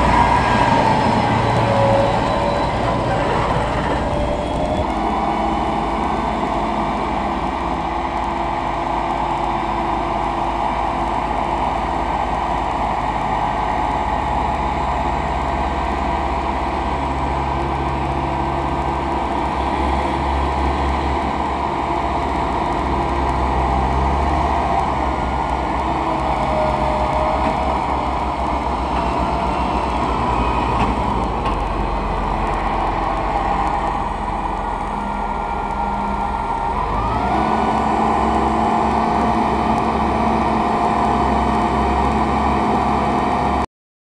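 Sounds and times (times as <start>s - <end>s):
tractor engine running: 0.0s - 43.7s.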